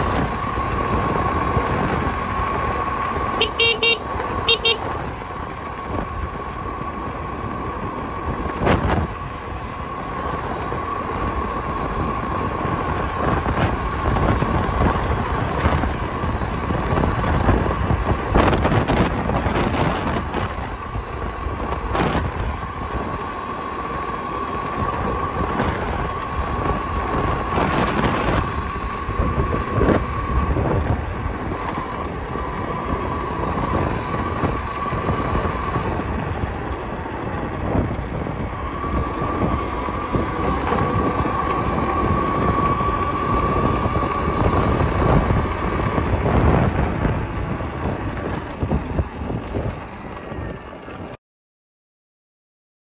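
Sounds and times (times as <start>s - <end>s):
wind rush: 4.6s - 51.2s.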